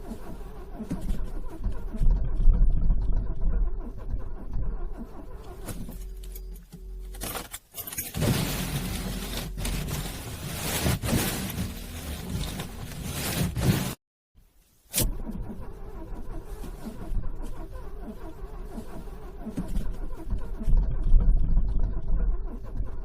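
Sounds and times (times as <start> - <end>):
car engine cranking: 0.0 - 14.0, 14.9 - 23.0.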